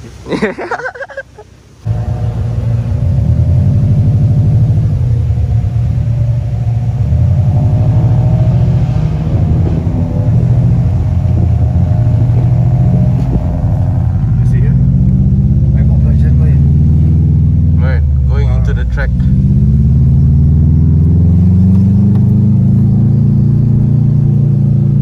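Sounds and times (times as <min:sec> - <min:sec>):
car engine droning: 0:01.5 - 0:25.0.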